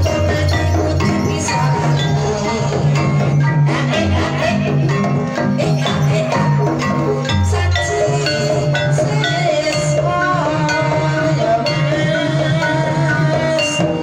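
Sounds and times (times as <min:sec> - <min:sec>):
drumming: 0:00.0 - 0:14.0
gamelan music: 0:00.0 - 0:14.0
mallet percussion melody: 0:00.0 - 0:14.0.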